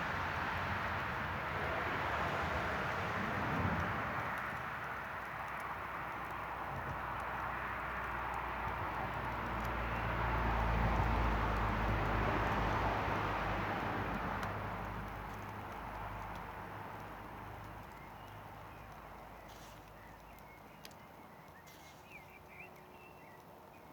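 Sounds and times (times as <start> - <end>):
campfire hissing and crackling: 0.1 - 22.6.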